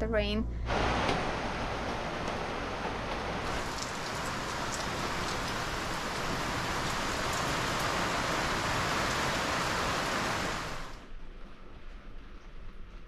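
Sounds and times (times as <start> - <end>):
heavy rain pouring: 0.7 - 11.2.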